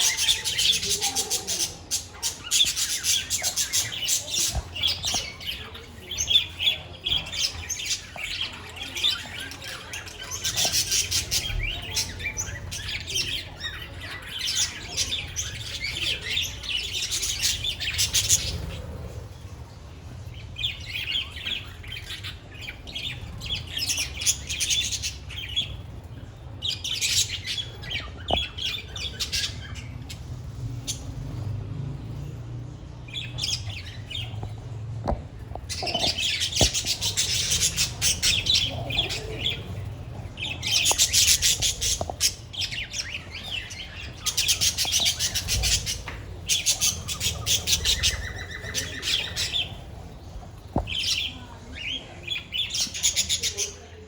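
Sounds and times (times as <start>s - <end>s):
budgerigars chattering and chirping: 0.0s - 31.5s, 33.0s - 54.0s.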